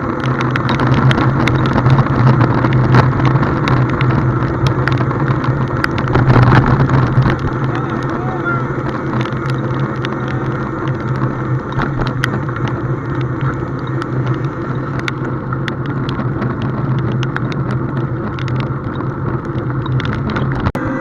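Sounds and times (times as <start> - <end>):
small clicks and taps: 0.0 - 20.7
engine humming: 0.0 - 21.0.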